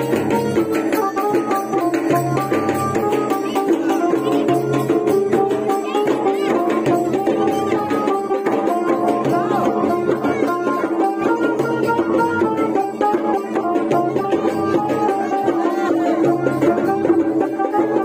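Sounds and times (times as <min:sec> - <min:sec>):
hand drum strokes: 0:00.0 - 0:18.0.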